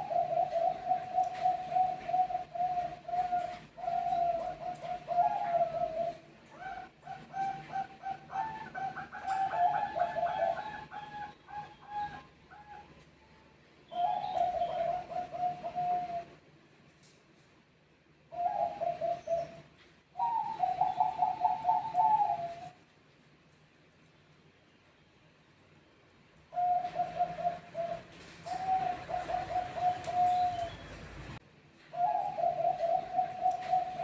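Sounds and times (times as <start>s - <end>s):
doves cooing: 0.0s - 13.0s, 13.9s - 16.4s, 18.3s - 22.8s, 26.5s - 34.0s.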